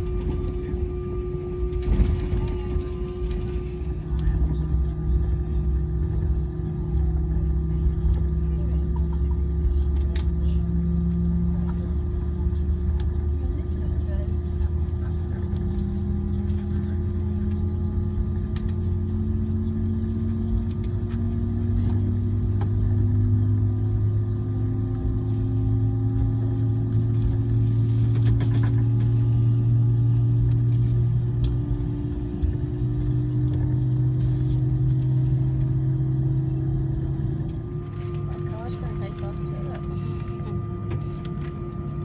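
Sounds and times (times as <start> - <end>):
jet engine drone in cabin: 0.0 - 42.0.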